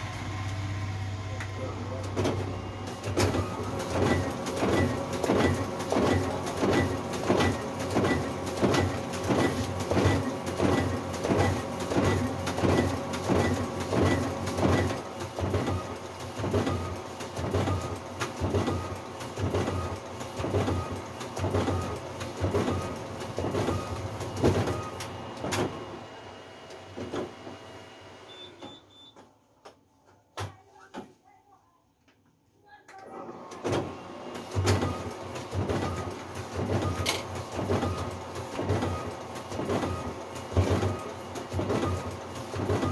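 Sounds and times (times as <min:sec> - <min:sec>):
duplicator printing mechanical strokes: 0:00.0 - 0:26.0, 0:34.3 - 0:42.9.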